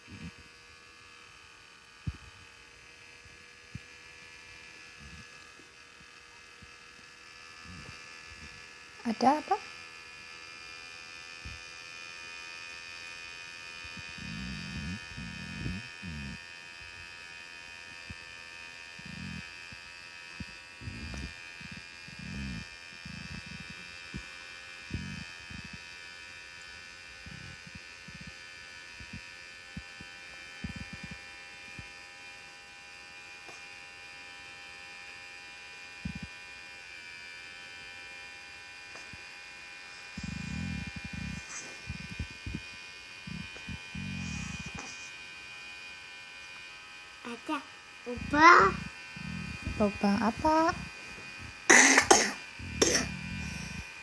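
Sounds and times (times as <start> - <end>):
small motor buzzing: 0.0 - 54.0.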